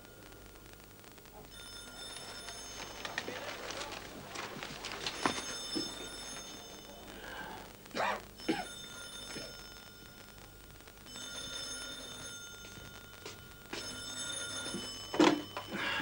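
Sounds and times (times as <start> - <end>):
telephone bell ringing: 1.5 - 3.8, 4.4 - 7.6, 8.4 - 16.0.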